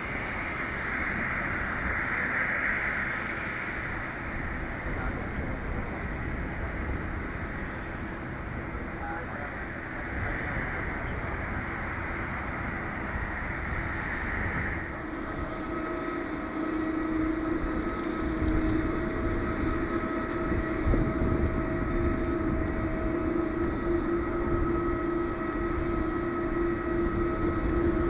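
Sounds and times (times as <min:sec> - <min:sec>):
jet engine whine: 0:00.0 - 0:28.0
jet engines idling rushing: 0:00.0 - 0:28.0.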